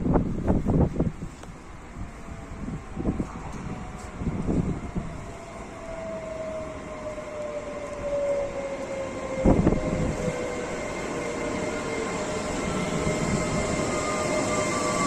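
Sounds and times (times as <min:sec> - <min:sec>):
electric train drive whining: 0:00.5 - 0:15.0.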